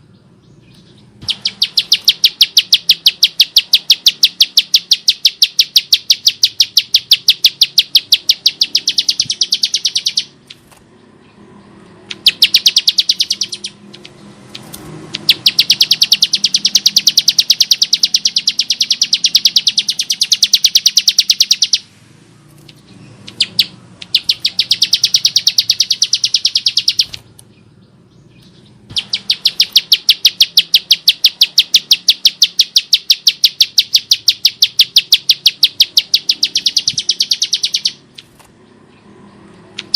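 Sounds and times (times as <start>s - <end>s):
bird giving harsh rapid call: 1.2s - 10.5s, 12.1s - 21.9s, 22.7s - 27.2s, 28.9s - 38.3s.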